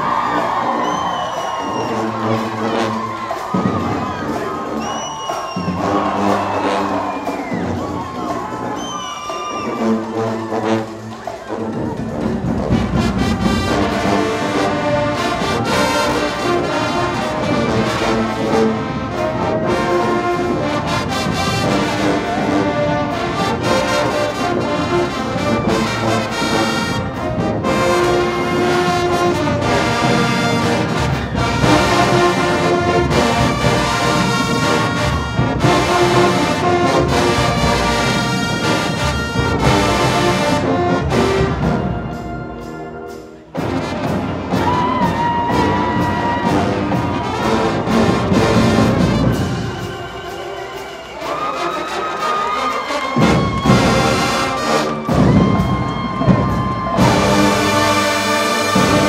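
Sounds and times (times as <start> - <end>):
brass: 0.0 - 59.0
drums: 0.0 - 59.0
marching band playing: 0.0 - 59.0.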